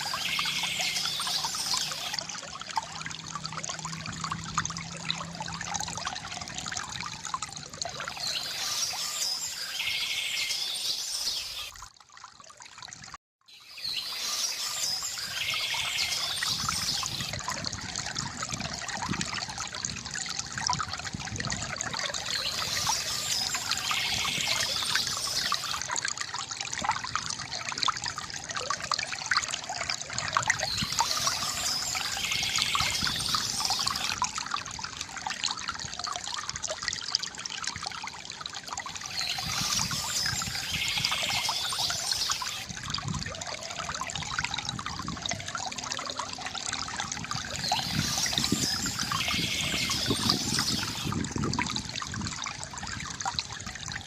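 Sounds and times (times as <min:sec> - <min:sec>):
fountain water trickling and gurgling: 0:00.0 - 0:54.0.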